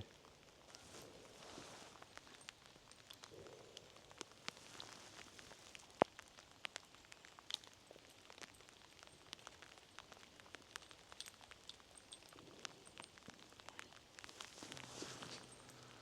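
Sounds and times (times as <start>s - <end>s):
raindrops tapping: 0.0s - 16.0s.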